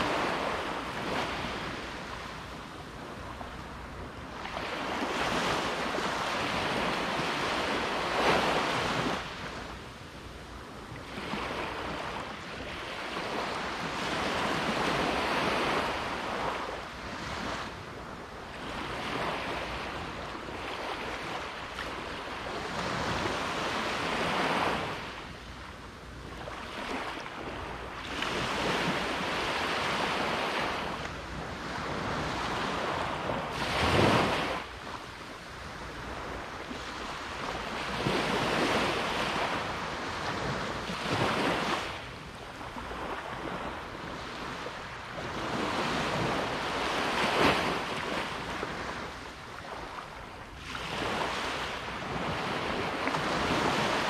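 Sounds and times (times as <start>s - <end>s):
sea waves breaking on beach: 0.0s - 10.0s, 11.0s - 54.0s.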